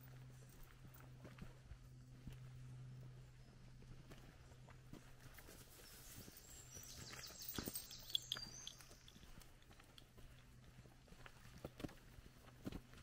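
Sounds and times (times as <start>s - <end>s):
footsteps on muddy track: 0.0s - 13.0s.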